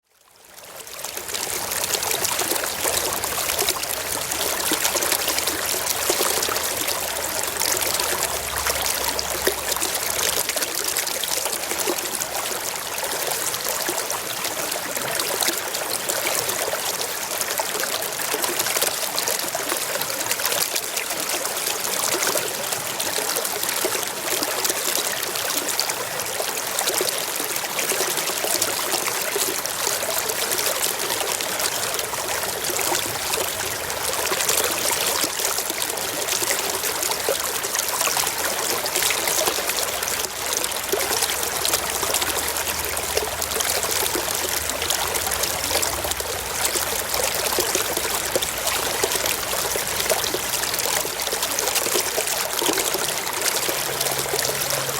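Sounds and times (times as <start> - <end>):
stream flowing over rocks: 0.0 - 54.9.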